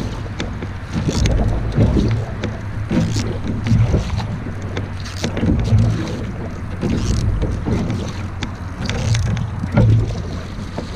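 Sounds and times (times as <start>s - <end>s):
low rush of water: 0.0s - 10.9s
paddle splashing in water: 0.0s - 10.9s
wind on microphone: 0.0s - 10.9s.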